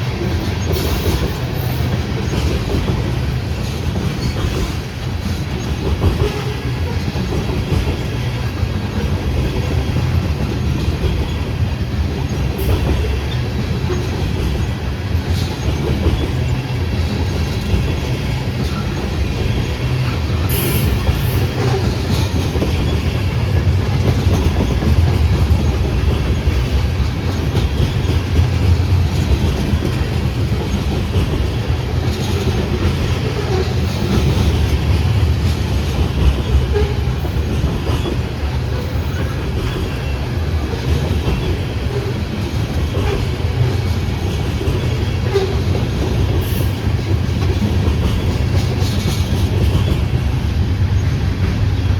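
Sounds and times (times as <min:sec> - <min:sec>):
clickety-clack over rail joints: 0:00.0 - 0:51.9
train wheels rumbling on rail: 0:00.0 - 0:51.9.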